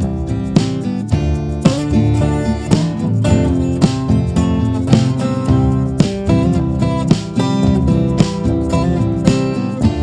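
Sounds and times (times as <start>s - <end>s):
guitar music with steady beat: 0.0s - 10.0s.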